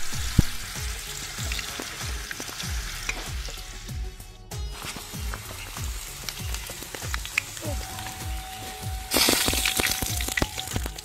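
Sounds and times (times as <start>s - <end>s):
deep-frying in hot oil: 0.0s - 11.0s.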